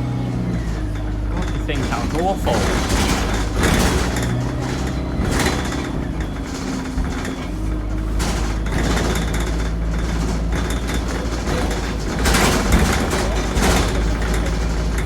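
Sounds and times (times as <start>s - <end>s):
bus engine droning: 0.0s - 15.0s
engine squealing: 0.0s - 15.0s.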